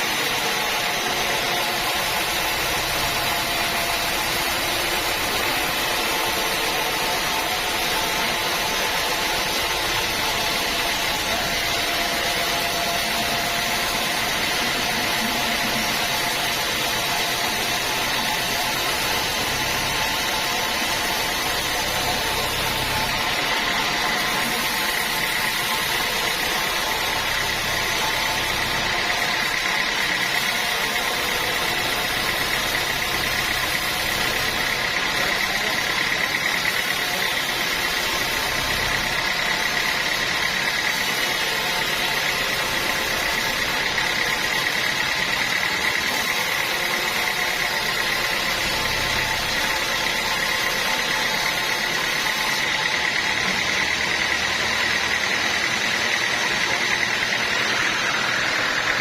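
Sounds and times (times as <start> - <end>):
high whine: 0.0 - 59.0
sawmill machinery running: 0.0 - 59.0.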